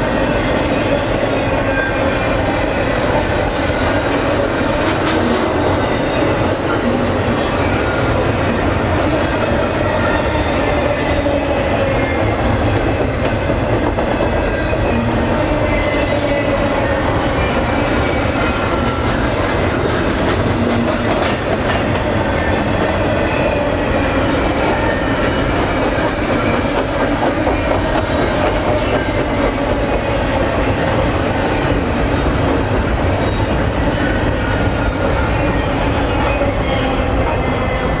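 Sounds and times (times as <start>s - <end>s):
freight train wheels rumbling on rail: 0.0s - 38.0s.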